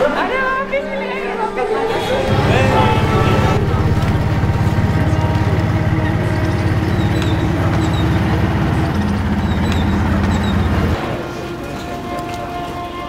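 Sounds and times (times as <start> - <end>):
heavy vehicle engine throbbing: 2.0 - 13.0.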